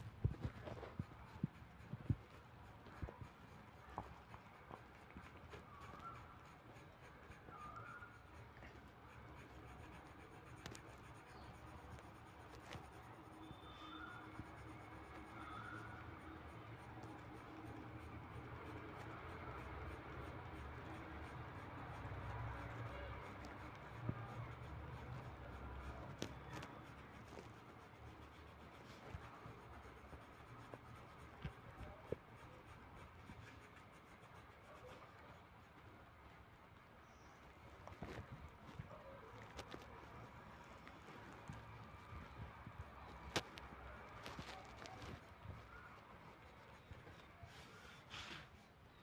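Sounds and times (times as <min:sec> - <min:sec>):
pencil scratching on paper: 0:00.0 - 0:49.0.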